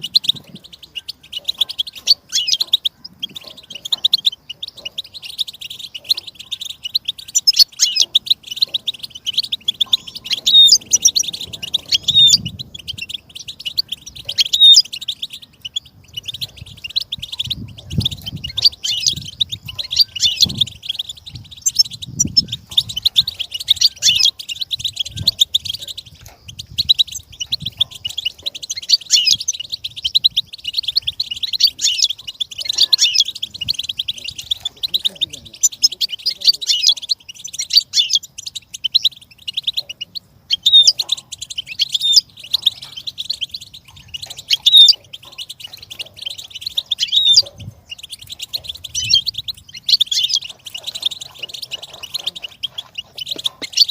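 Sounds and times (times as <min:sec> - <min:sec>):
bird twittering song: 0:00.0 - 0:53.9.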